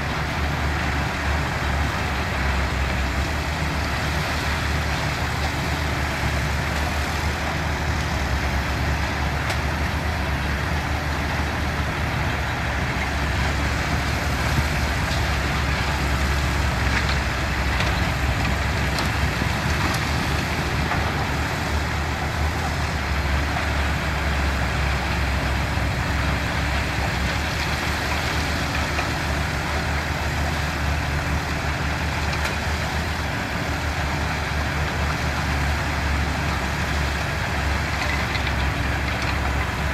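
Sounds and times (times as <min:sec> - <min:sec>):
heavy machinery engines rumbling: 0:00.0 - 0:39.9.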